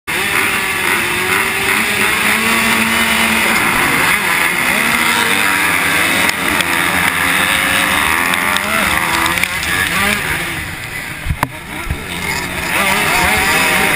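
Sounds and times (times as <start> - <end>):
motocross bikes revving: 0.1 - 13.9.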